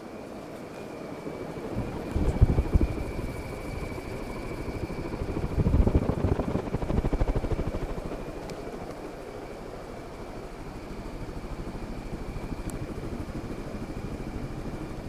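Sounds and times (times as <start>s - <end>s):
ceiling fan blades pulsing: 0.0s - 15.0s.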